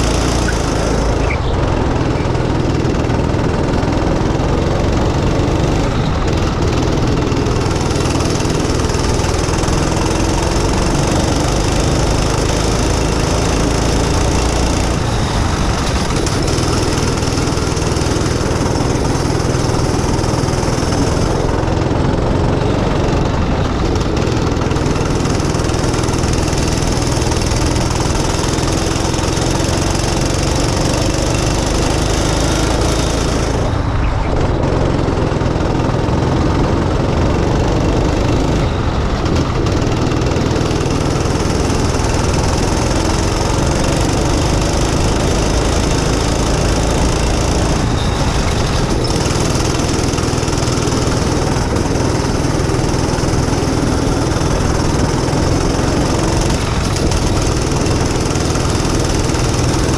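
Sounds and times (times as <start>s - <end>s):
go-kart engine racing: 0.0s - 59.9s.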